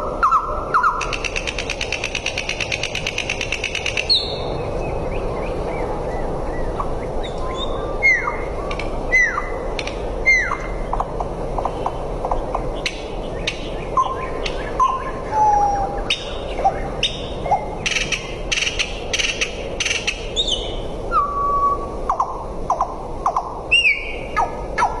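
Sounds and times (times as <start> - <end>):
birds chirping and whistling: 0.0 - 25.0
steady background hiss: 0.0 - 25.0.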